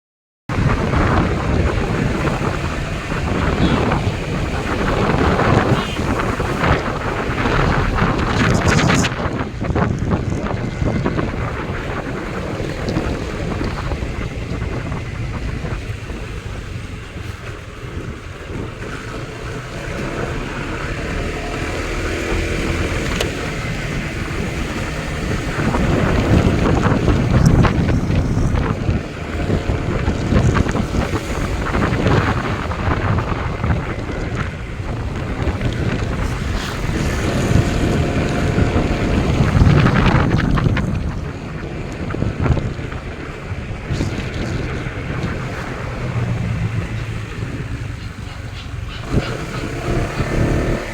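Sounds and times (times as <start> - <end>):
wind buffeting microphone: 0.5 - 50.9.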